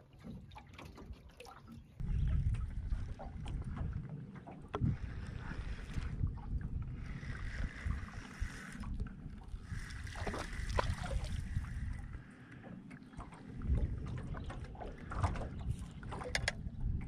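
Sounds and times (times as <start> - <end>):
water lapping at boat: 0.0 - 17.0
wind buffeting microphone: 2.0 - 17.0.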